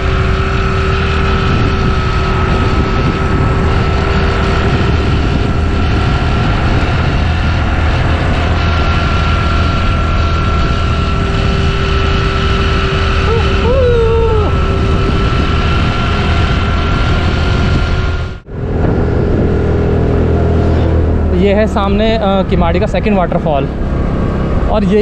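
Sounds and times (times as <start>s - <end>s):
scooter engine running: 0.0s - 25.0s.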